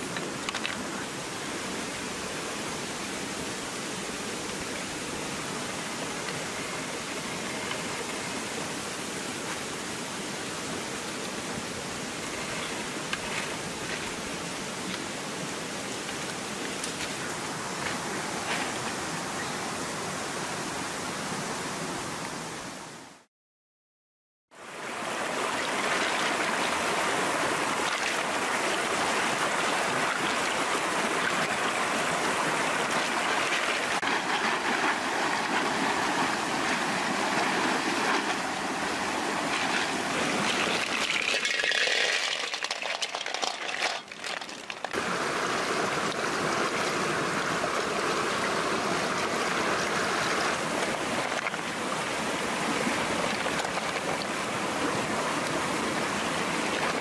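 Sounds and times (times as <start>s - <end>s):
stream rushing over rocks: 0.0s - 23.3s, 24.6s - 57.0s.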